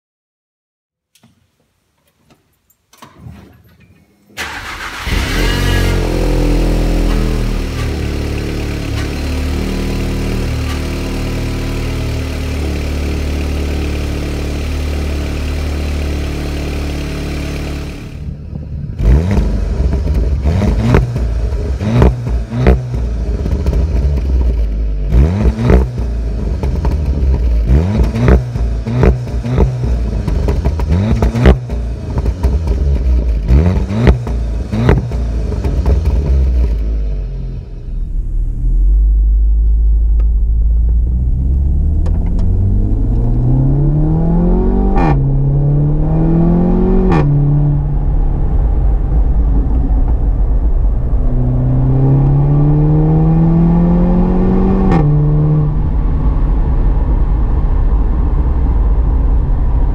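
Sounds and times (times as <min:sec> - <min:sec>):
car engine starting and idling: 0:02.6 - 0:59.9
car engine revving: 0:04.4 - 0:59.9.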